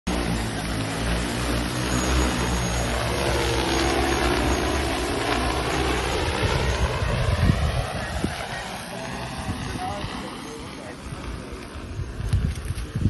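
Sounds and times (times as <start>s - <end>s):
aircraft propeller drone: 0.1s - 13.0s.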